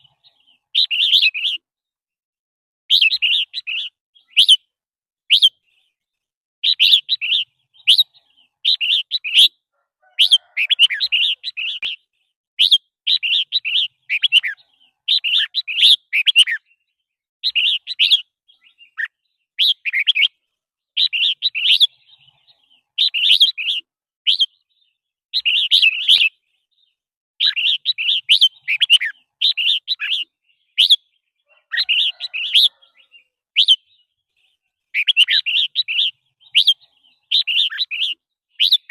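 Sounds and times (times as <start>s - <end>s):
bird singing chirpy phrases: 0.0s - 2.0s, 2.9s - 38.9s.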